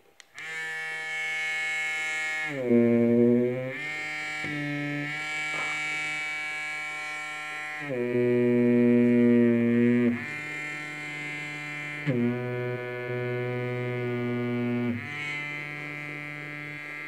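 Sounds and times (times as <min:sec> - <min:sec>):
vibrator motor buzzing: 0:00.4 - 0:17.0.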